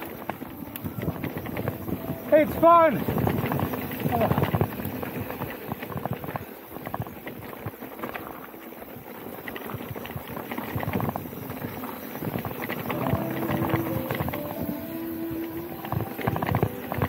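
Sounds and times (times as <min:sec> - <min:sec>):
bike rattling over trail: 0:00.0 - 0:17.0
bike tyres rolling over dirt: 0:00.0 - 0:17.0
steady whine: 0:00.0 - 0:17.0.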